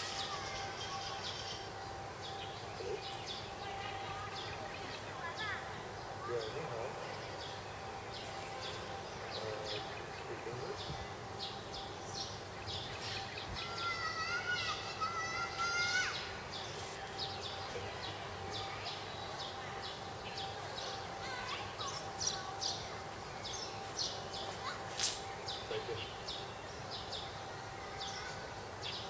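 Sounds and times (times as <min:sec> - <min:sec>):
birds chirping: 0:00.0 - 0:29.0
faint steady hum: 0:00.0 - 0:29.0.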